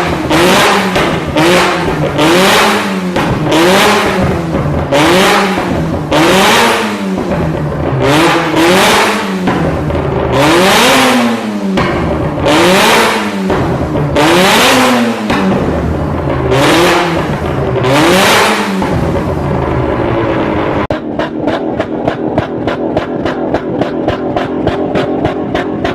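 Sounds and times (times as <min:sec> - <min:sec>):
car engine revving: 0:00.0 - 0:25.9
exhaust backfire bangs: 0:00.0 - 0:25.9.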